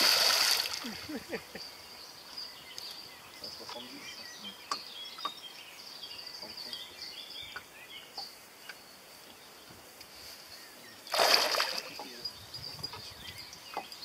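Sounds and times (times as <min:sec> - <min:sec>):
small birds chirping: 0:00.0 - 0:14.0
steady high-pitched hiss: 0:00.0 - 0:14.0.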